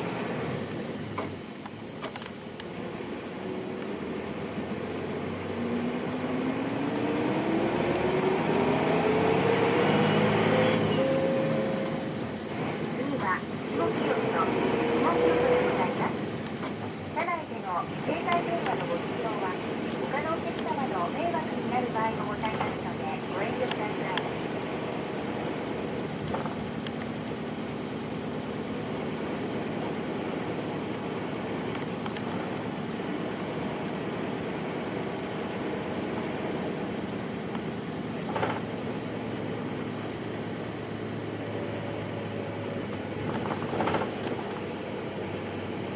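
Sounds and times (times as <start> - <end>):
bus diesel engine revving: 0.0 - 45.9
road noise: 0.0 - 45.9.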